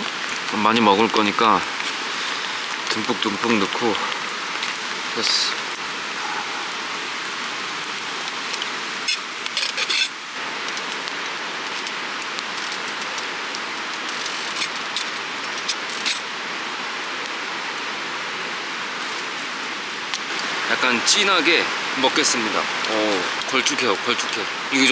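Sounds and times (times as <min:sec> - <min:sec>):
steady hiss: 0:00.0 - 0:24.9.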